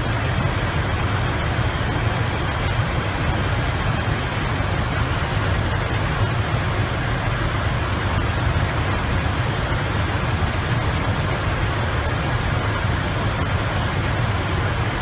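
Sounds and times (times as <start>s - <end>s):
cockpit airflow and engine noise: 0.0s - 15.0s.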